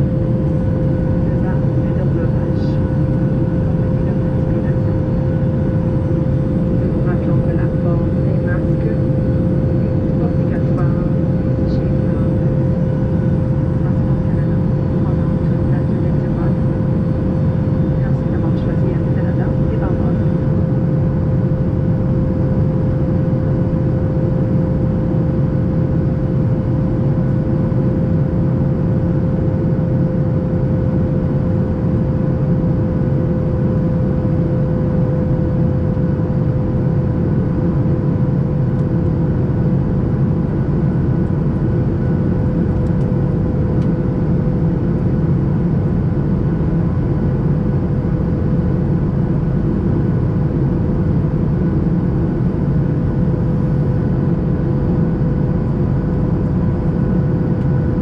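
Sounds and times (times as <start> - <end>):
airplane cabin airflow and engines: 0.0 - 58.0.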